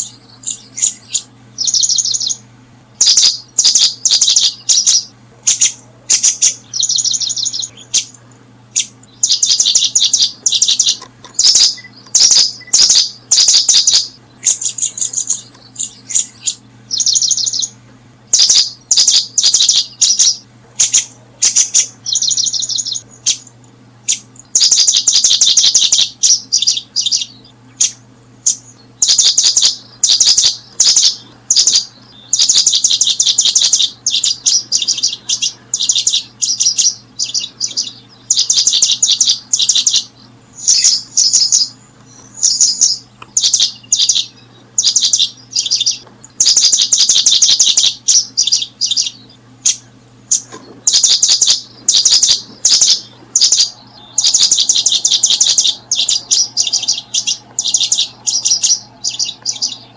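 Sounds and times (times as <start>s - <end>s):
faint low hum: 0.0s - 59.9s
small bird chirping: 0.0s - 59.9s.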